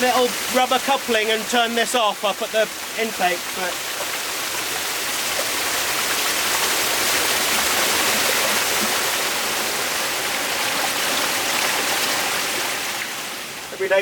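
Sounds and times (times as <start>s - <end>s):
pressurised water gushing from pipe: 0.0s - 13.8s.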